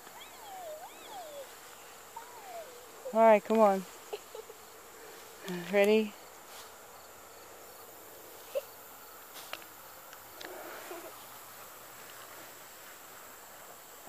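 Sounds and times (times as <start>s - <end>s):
insects chirping faintly: 0.0s - 14.0s.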